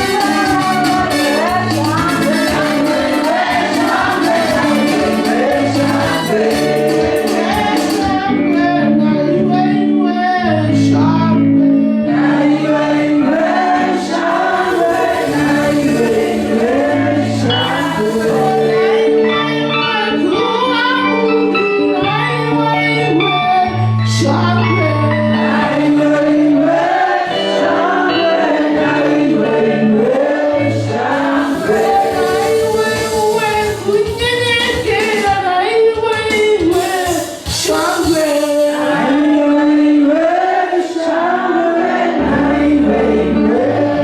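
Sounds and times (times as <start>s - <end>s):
choir singing gospel music: 0.0s - 44.0s
instrumental backing with bass line: 0.0s - 44.0s.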